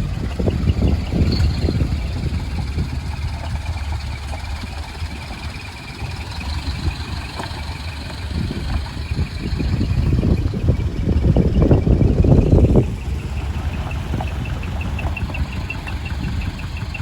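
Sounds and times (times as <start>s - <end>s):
truck diesel engine rumbling: 0.0s - 17.0s.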